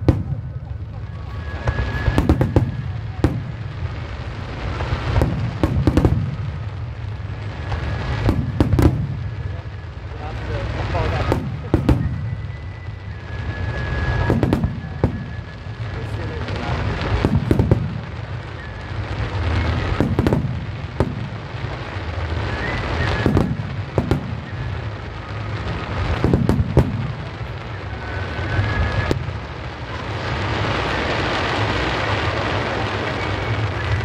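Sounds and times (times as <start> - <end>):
dense firework crackling: 0.0 - 34.0.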